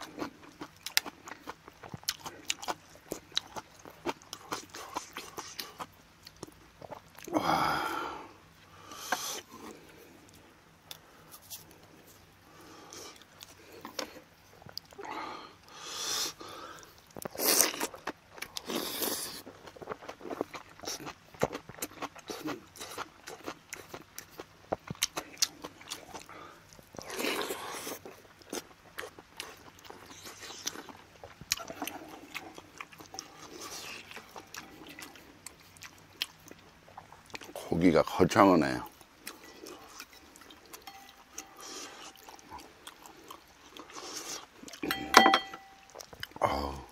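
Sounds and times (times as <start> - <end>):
chewing and biting: 0.0 - 7.3, 9.1 - 15.0, 16.2 - 37.6, 39.0 - 45.0.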